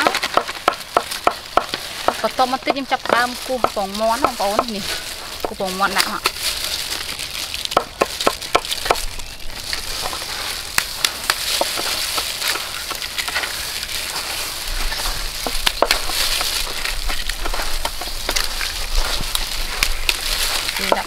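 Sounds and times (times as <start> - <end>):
eggshells cracking: 0.0 - 21.0.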